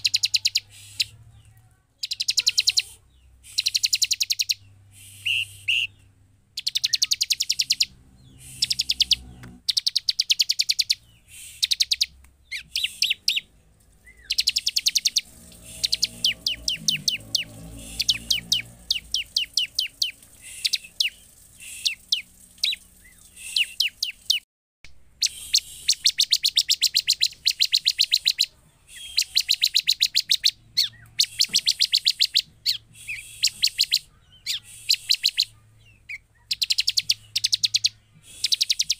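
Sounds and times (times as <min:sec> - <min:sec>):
bird chattering song: 0:00.0 - 0:24.4, 0:25.2 - 0:38.9.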